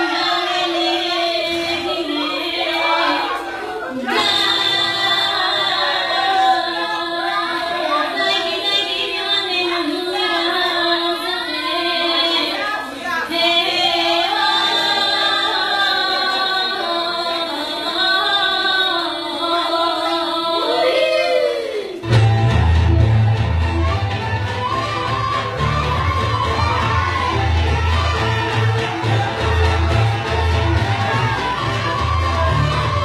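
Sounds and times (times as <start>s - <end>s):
women singing folk song: 0.0s - 23.0s, 23.6s - 33.0s.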